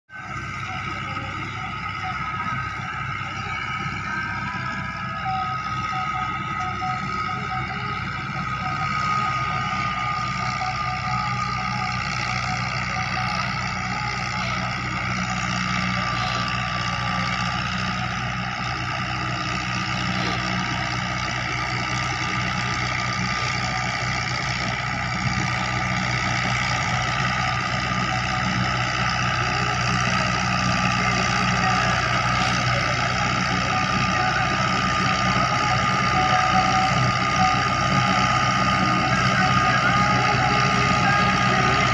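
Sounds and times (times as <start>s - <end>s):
tractor diesel engine running: 0.0s - 41.9s
high whine: 0.1s - 41.9s.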